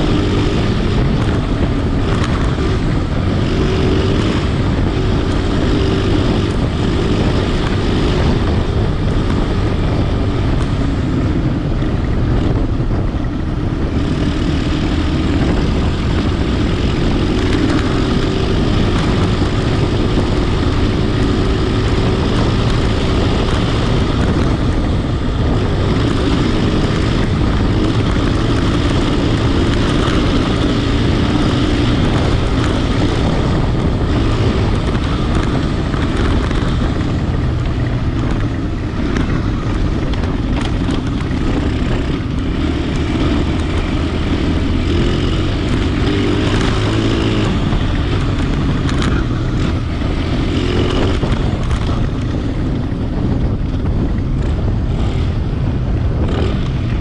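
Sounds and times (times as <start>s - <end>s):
vehicle engine running: 0.0s - 57.0s
wind noise on microphone: 0.0s - 57.0s.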